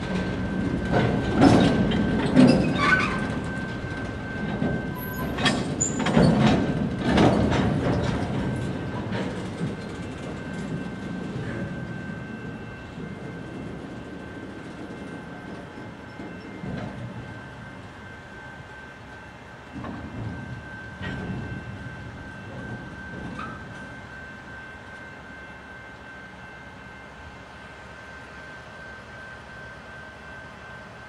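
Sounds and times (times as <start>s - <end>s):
freight train cars rumbling: 0.0s - 31.0s
train cars clanking and banging: 0.0s - 31.0s.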